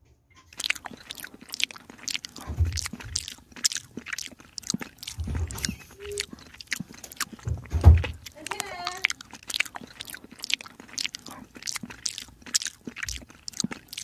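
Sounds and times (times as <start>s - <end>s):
kitten chewing and licking: 0.5s - 14.0s.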